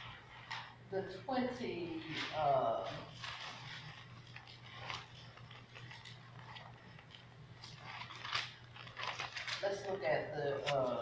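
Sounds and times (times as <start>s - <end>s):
steady low hum: 0.0s - 11.0s
book pages turning: 2.0s - 11.0s.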